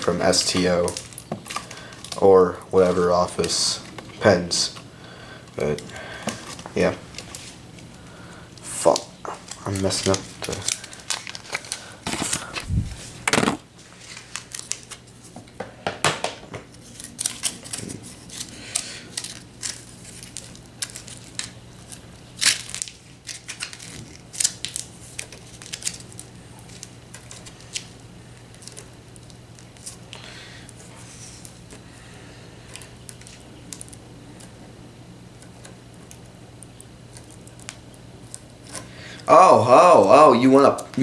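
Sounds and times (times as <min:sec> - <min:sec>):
aluminium foil crinkling: 0:00.0 - 0:15.5, 0:16.6 - 0:34.6, 0:35.4 - 0:41.0.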